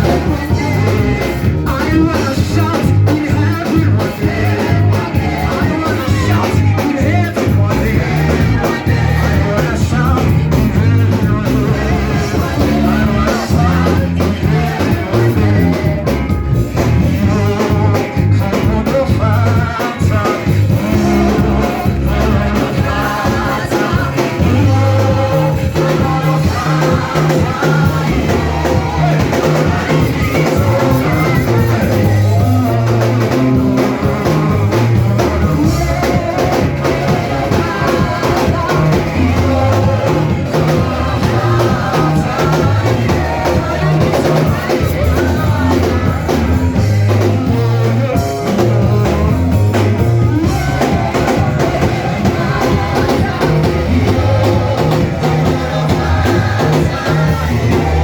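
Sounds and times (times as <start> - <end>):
live band playing worship music: 0.0 - 58.0
voices singing: 0.0 - 58.0.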